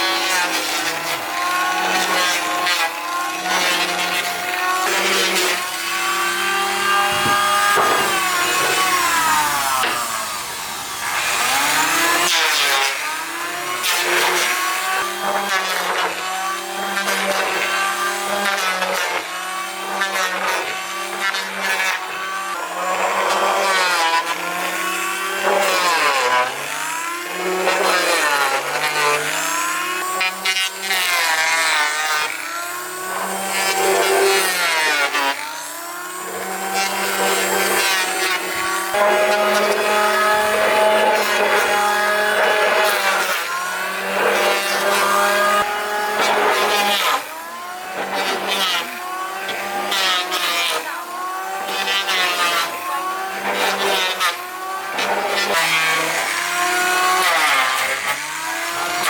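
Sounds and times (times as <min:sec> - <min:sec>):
power tool motor: 0:00.0 - 0:59.0
rasping wood cutting: 0:00.0 - 0:59.0.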